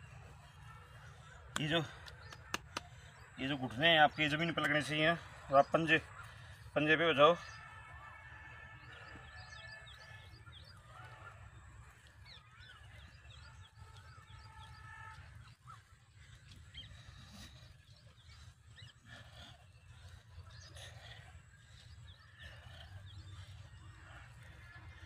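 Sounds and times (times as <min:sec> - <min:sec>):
birds chirping and warbling: 0:00.0 - 0:25.0.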